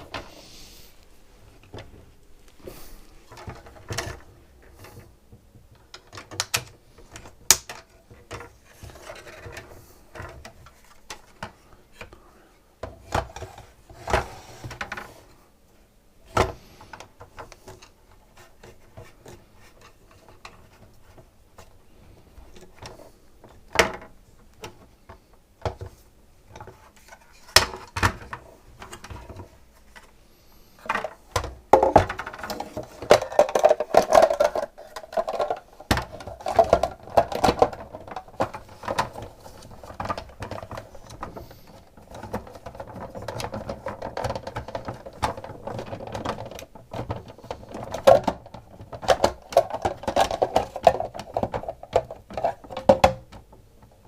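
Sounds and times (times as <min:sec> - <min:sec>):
plastic parts clicking and knocking: 0:03.3 - 0:12.2, 0:12.8 - 0:15.2, 0:16.3 - 0:30.2, 0:30.8 - 0:54.0.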